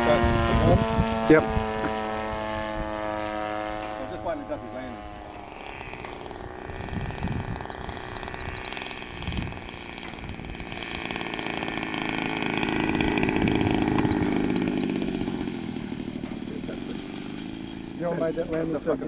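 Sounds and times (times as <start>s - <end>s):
model plane piston engine idling: 0.0s - 19.0s.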